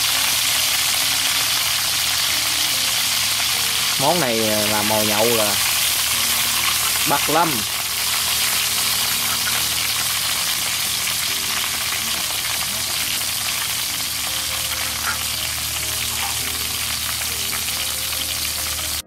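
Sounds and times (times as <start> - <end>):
meat deep-frying in oil: 0.0 - 19.0.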